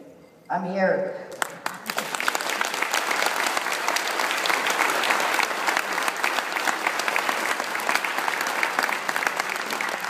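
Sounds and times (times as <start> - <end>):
close hands clapping: 1.3 - 10.0
audience applauding: 1.4 - 10.0.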